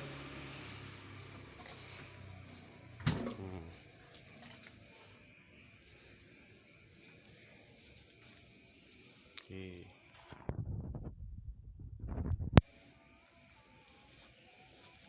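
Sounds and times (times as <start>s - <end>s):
crickets chirping: 0.0s - 11.0s, 12.1s - 15.0s.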